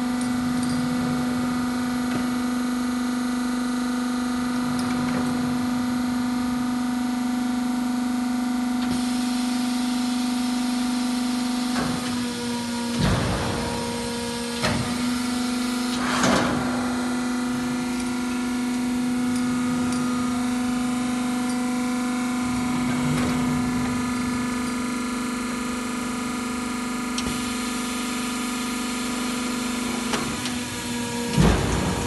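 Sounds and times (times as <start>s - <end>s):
press electric hum: 0.0s - 32.0s.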